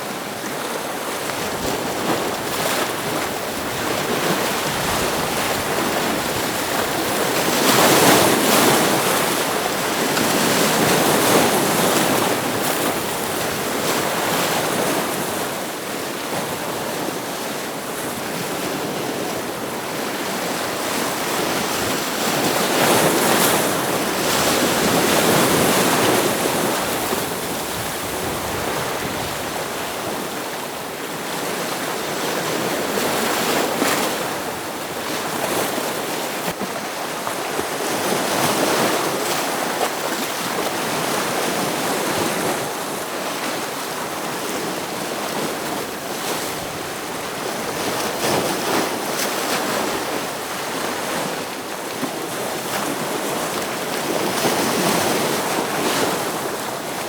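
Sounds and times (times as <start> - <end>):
ocean waves breaking on rocks: 0.0 - 57.0.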